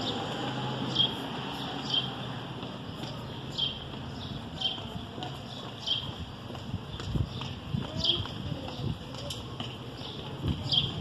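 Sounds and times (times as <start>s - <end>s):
shoe heels clicking on pavement: 0.0s - 11.0s.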